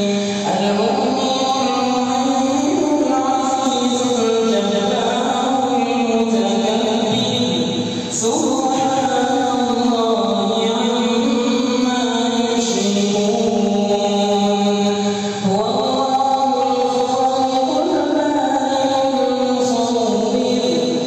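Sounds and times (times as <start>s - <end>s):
man chanting melodic recitation: 0.0s - 21.0s.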